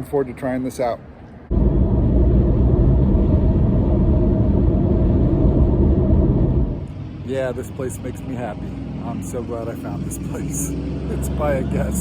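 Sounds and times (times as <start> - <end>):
car cabin road and engine rumble: 1.5 - 12.0.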